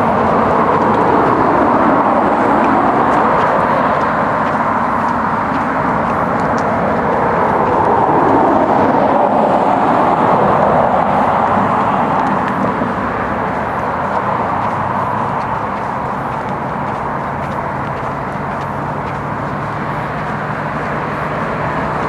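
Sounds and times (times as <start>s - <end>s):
rushing vehicle noise: 0.0s - 22.0s.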